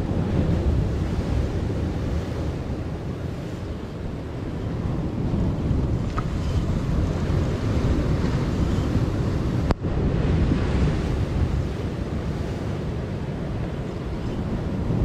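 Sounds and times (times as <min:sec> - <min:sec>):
surf on rocky shore: 0:00.0 - 0:15.0
wind buffeting microphone: 0:00.0 - 0:15.0.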